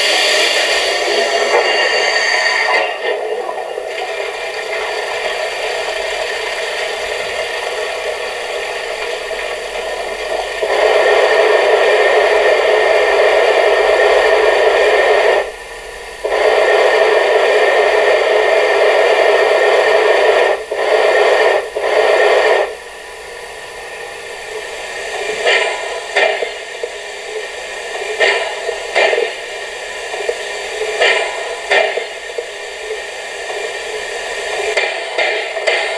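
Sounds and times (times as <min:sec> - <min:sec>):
recorded steam hissing from loudspeaker: 0:00.0 - 0:35.9
short steam puffs: 0:00.0 - 0:35.9.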